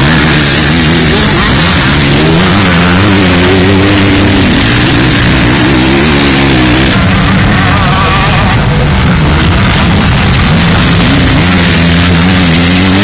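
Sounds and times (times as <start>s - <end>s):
dirt bike engine revving: 0.0s - 13.0s
higher-pitched engine: 0.0s - 13.0s.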